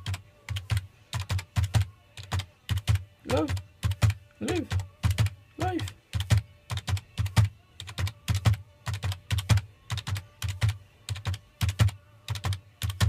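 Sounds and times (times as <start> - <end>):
keyboard keys tapped rhythmically: 0.0 - 13.0.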